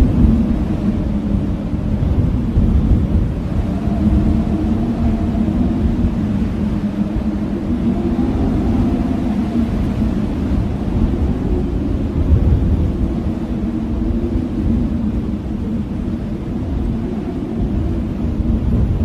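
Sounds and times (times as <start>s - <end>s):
blizzard wind howling: 0.0s - 19.0s
deep rumble: 0.0s - 19.0s.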